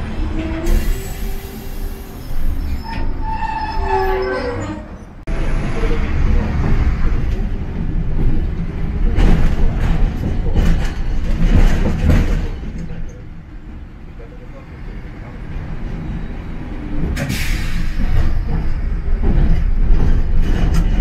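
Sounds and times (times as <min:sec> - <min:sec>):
tram wheels and motors rumbling: 0:00.0 - 0:21.0.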